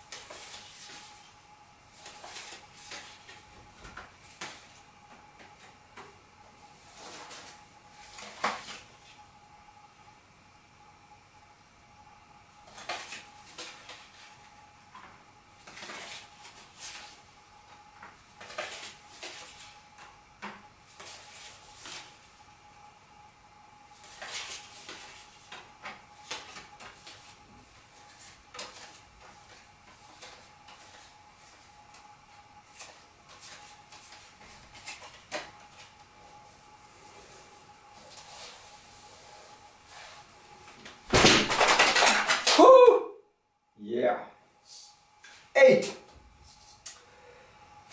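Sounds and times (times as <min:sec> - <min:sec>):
faint high hum: 0:00.0 - 0:47.9.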